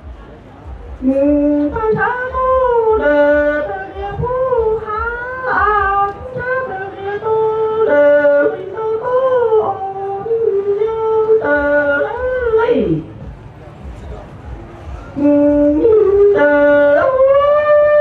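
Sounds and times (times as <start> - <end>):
man singing into a microphone: 0.9 - 13.0, 15.2 - 18.0.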